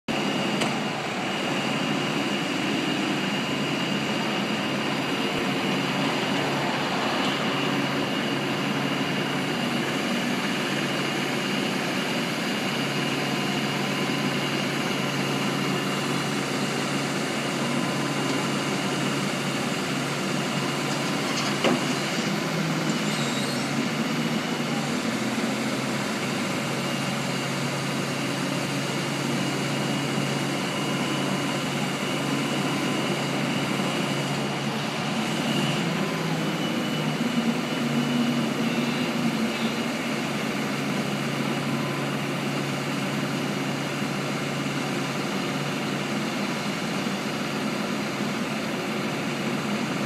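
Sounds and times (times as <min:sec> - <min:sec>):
truck engine running: 0:00.1 - 0:50.0.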